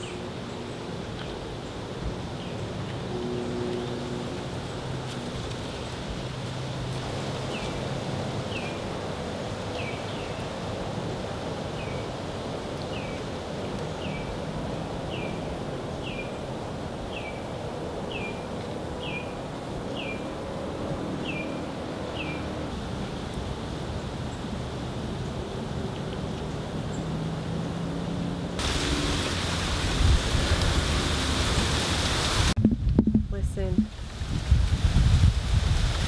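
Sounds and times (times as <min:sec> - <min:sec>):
wind in leaves: 0:00.0 - 0:36.0.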